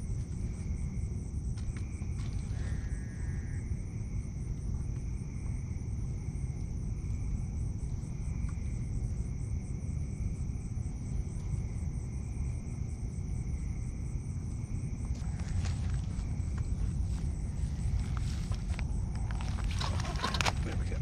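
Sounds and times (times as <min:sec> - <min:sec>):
low continuous rumble: 0:00.0 - 0:21.0
night insects chorus: 0:00.0 - 0:21.0.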